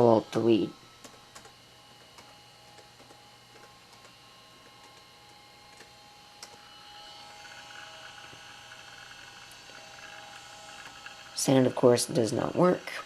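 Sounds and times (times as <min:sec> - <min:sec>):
hard drive buzzing chatter: 0:00.0 - 0:13.0
laptop fan whine: 0:00.0 - 0:13.0.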